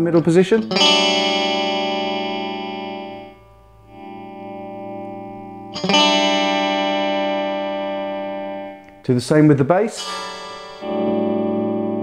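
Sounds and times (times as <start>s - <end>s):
electric guitar chord ringing: 0.0s - 9.0s, 9.9s - 12.0s.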